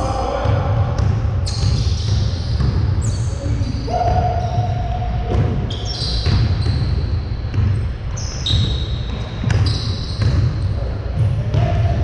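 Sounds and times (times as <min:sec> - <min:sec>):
basketball bouncing on wood floor: 0:00.4 - 0:03.1, 0:03.9 - 0:07.9, 0:08.5 - 0:12.0
sneaker squeaks: 0:01.4 - 0:12.0.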